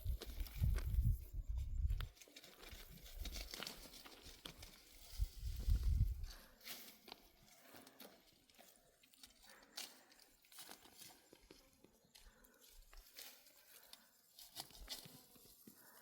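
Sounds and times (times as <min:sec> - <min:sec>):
faint clicks and rustles: 0:00.0 - 0:16.0.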